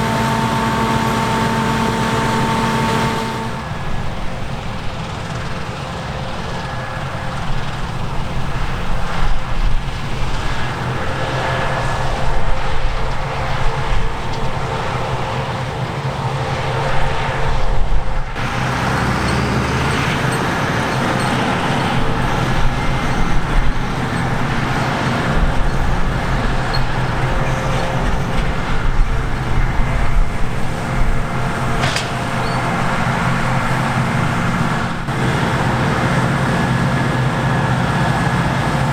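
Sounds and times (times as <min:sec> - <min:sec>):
harvest machinery diesel engines: 0:00.0 - 0:38.9.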